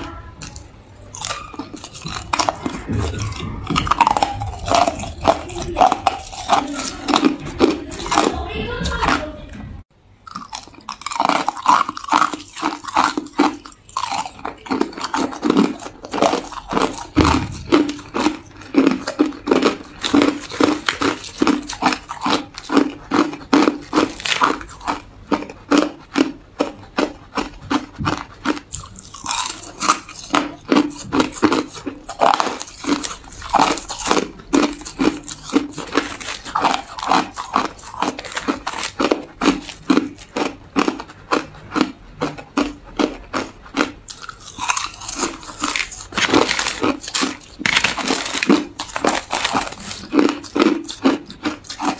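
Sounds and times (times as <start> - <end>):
ice being chewed: 0.0 - 9.4, 10.2 - 51.9.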